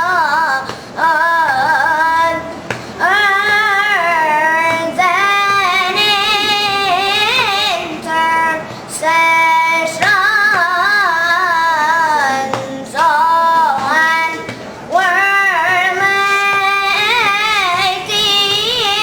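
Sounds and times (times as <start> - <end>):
child singing: 0.0 - 19.0.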